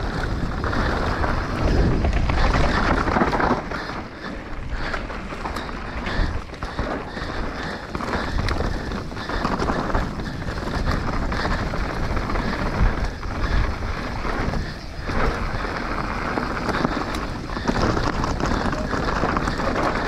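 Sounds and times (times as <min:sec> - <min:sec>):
bike rattling and knocking: 0:00.0 - 0:20.0
wind buffeting microphone: 0:00.0 - 0:20.0.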